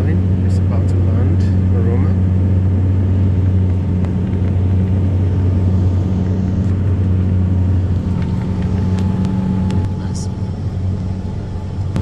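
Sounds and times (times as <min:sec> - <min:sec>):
propeller plane cabin drone: 0:00.0 - 0:12.0.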